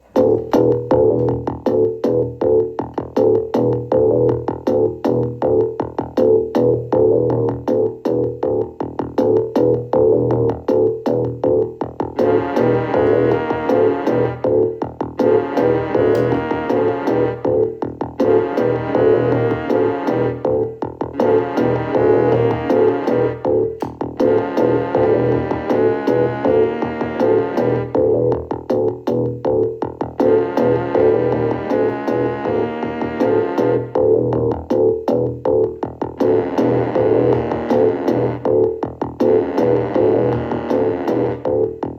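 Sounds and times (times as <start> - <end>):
music with fast beat: 0.0 - 41.9.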